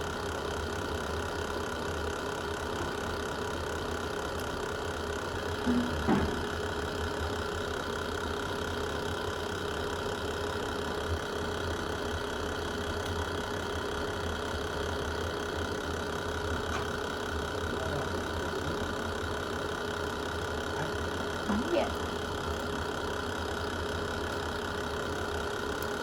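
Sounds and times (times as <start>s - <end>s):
wood fire rumbling: 2.6s - 26.0s.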